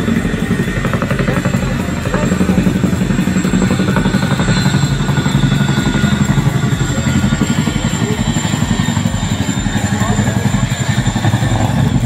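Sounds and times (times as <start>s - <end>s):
helicopter rotors chopping: 0.0s - 12.0s.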